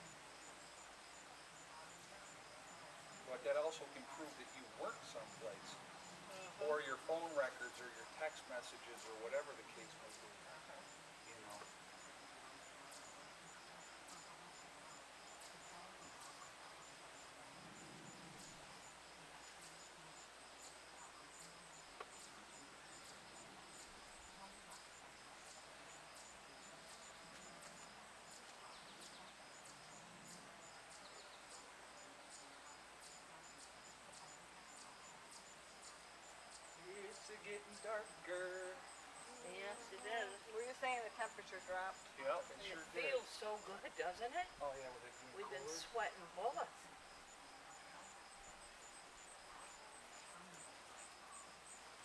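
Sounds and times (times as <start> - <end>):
insect chirping: 0.0 - 52.0.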